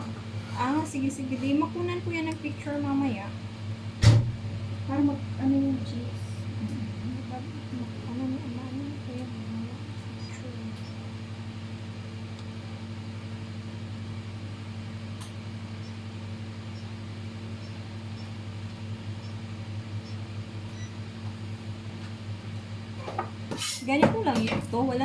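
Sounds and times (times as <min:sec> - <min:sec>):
countertop oven humming: 0:00.0 - 0:25.0.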